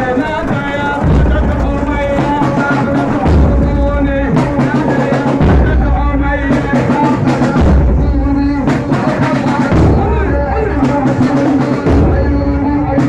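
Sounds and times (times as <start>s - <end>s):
chant melody over percussion: 0.0s - 13.0s
deep bass drum beats: 0.0s - 13.0s.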